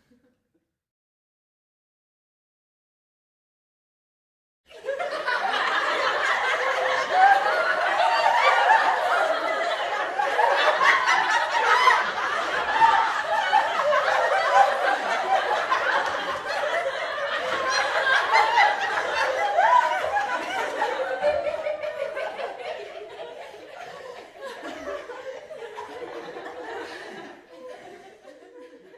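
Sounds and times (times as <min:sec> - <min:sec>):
audience laughing: 0:04.7 - 0:28.9.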